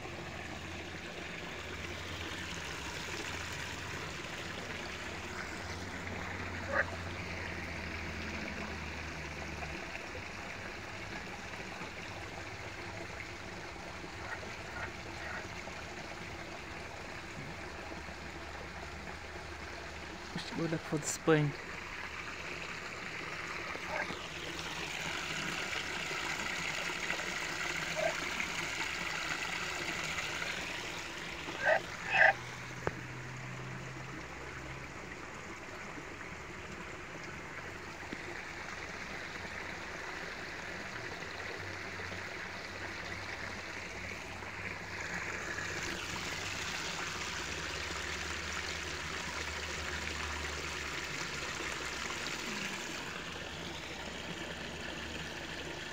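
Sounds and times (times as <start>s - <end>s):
stream trickling: 0.0s - 55.9s.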